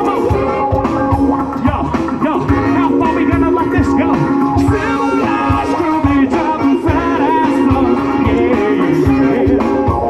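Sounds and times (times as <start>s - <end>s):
electric guitar bending notes: 0.0s - 10.0s
steady drum beat: 0.0s - 10.0s.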